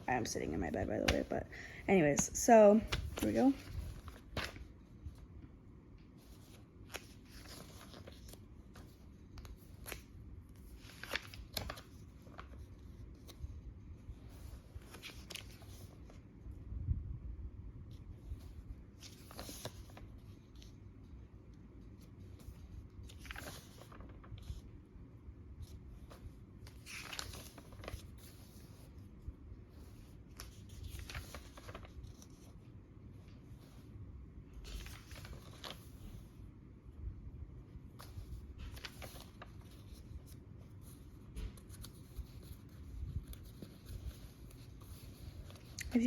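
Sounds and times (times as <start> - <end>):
pages turning: 0.0 - 5.3, 6.0 - 16.3, 17.9 - 24.7, 25.5 - 36.4, 37.8 - 46.0.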